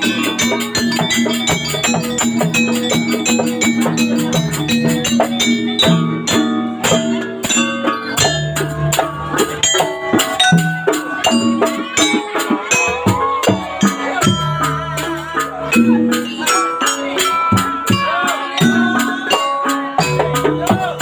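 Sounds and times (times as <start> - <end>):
drum beat: 0.0 - 21.0
gamelan ensemble music: 0.0 - 21.0
metallic percussion strokes: 0.0 - 21.0.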